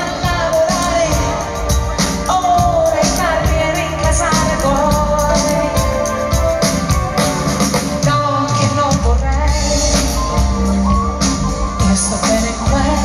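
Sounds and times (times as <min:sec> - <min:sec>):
woman singing: 0:00.0 - 0:06.9, 0:07.8 - 0:13.0
live pop-rock band: 0:00.0 - 0:13.0.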